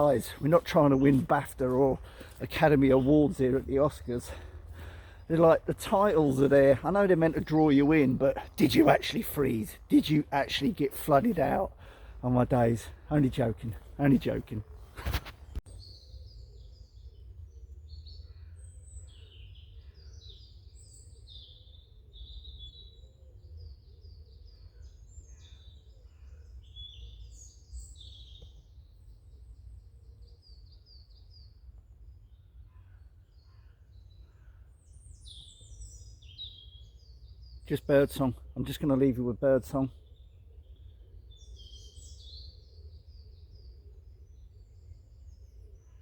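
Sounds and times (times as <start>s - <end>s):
birds singing: 0.0s - 46.0s.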